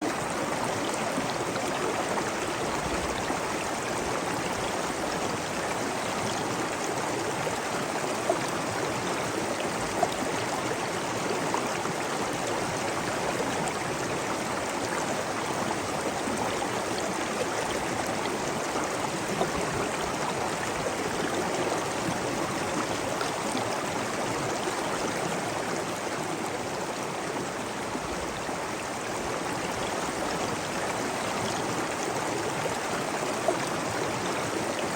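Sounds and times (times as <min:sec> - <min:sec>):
rushing flowing water: 0:00.0 - 0:34.9.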